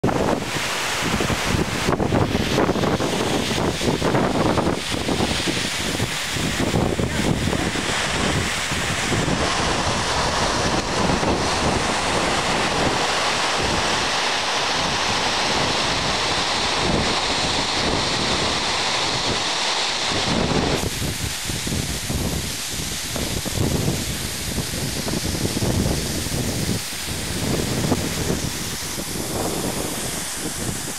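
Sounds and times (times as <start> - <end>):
waterfall rushing: 0.0 - 30.9
wind buffeting microphone: 0.0 - 30.9.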